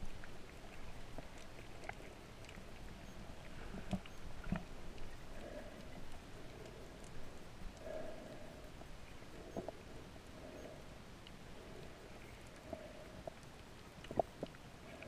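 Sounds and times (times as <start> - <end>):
underwater rumble of moving water: 0.0 - 15.0
faint clicks: 0.1 - 15.0.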